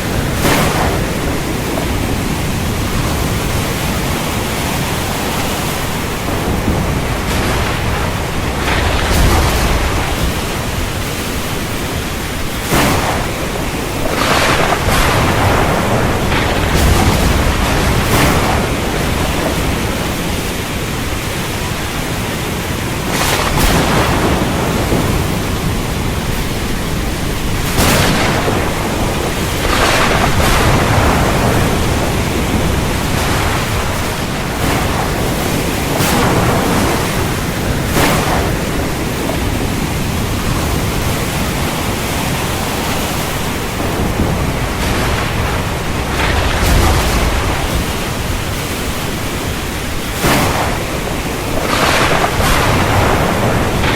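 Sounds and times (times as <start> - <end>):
heavy rain downpour: 0.0 - 53.9
thunder rumble: 0.0 - 53.9.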